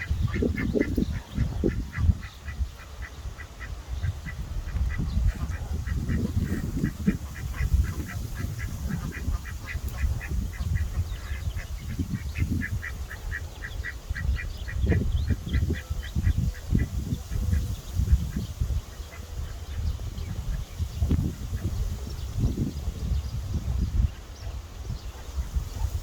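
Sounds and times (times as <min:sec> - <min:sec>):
ducks quacking softly: 0:00.0 - 0:25.9.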